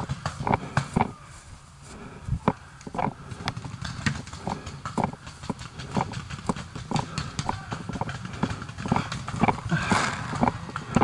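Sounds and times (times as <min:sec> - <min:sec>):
running footsteps on grass: 0:00.0 - 0:11.0.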